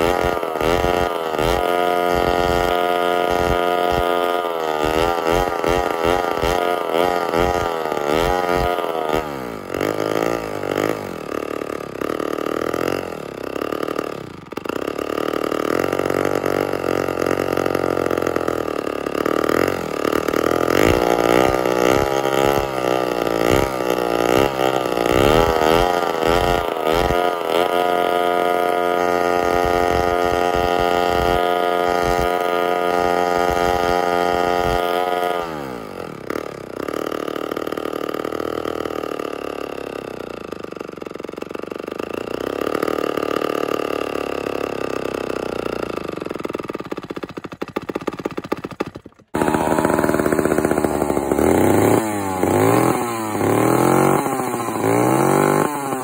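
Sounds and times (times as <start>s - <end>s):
second chainsaw engine: 0.0s - 56.0s
two-stroke chainsaw running: 0.0s - 56.0s.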